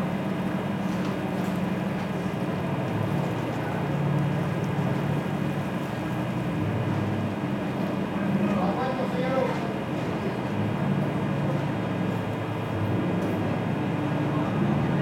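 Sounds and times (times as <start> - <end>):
ferry engine droning: 0.0 - 15.0.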